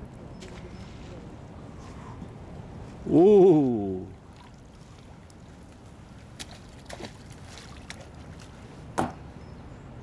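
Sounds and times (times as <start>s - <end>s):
steady low background noise: 0.0s - 10.0s.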